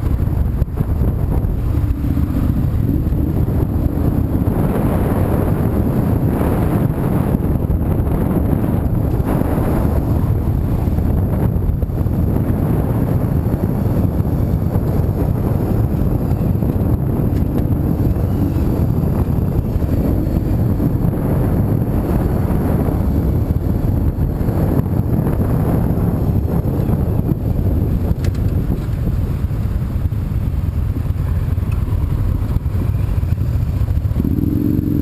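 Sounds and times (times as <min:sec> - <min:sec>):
road and engine rumble: 0:00.0 - 0:35.0
wind buffeting microphone: 0:00.0 - 0:35.0.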